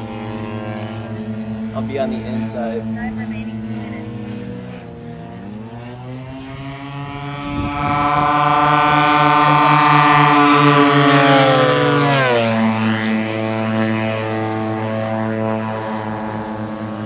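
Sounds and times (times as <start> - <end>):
model airplanes buzzing drone: 0.0 - 17.0.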